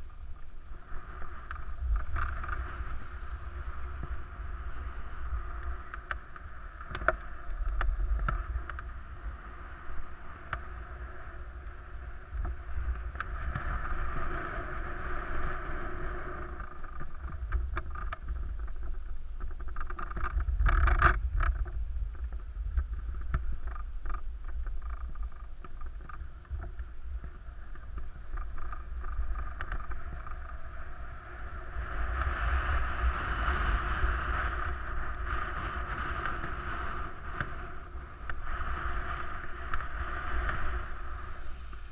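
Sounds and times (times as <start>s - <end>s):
skis scraping over snow: 0.0s - 19.7s, 24.9s - 41.9s
wind rumbling on microphone: 0.0s - 41.9s.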